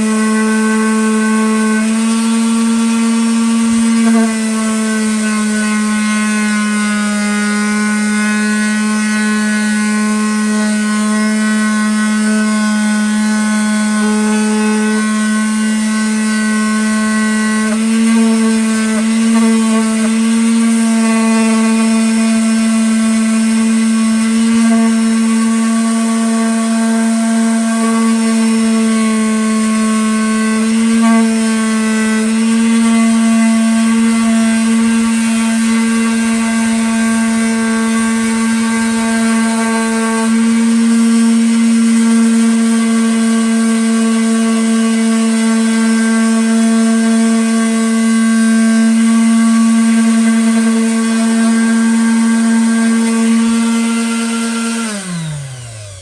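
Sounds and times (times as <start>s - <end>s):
electric power sander on wood: 0.0s - 56.0s.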